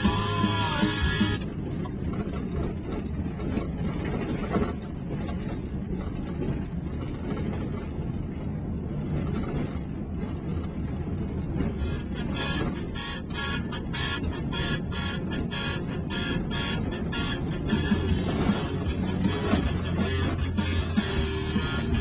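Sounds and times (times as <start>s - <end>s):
engine and tyres rumbling on dirt: 0.0s - 22.0s.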